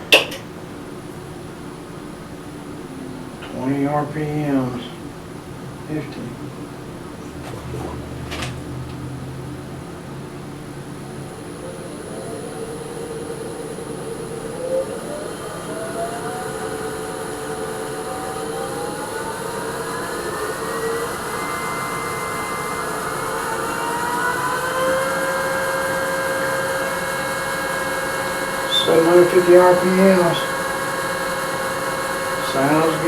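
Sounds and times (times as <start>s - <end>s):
lathe motor whine rising: 1.7s - 33.0s.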